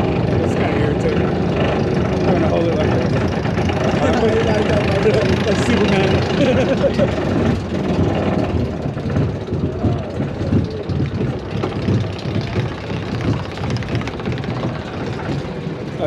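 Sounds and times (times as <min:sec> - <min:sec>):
roller coaster train rumbling: 0:00.0 - 0:16.0
wind buffeting microphone: 0:00.0 - 0:16.0.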